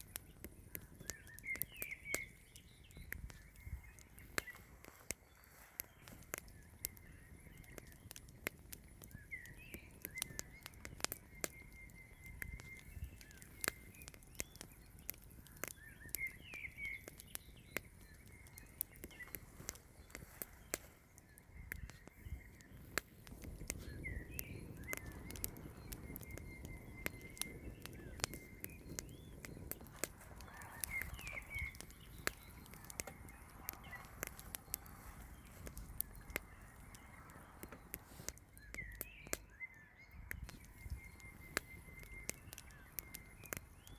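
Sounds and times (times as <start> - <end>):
campfire crackling and popping: 0.0 - 43.9
small bird chirping: 0.0 - 43.9.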